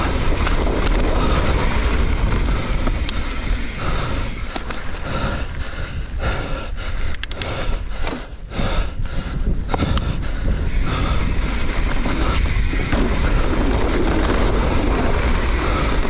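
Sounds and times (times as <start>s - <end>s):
bike tyres rolling on dirt: 0.0s - 16.0s
wind on microphone: 0.0s - 16.0s.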